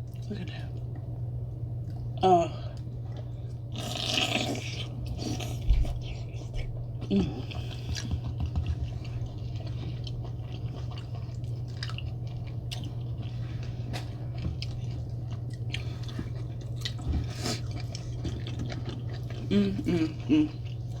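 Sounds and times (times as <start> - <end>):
steady low hum: 0.0 - 21.0
wet chewing: 3.0 - 21.0.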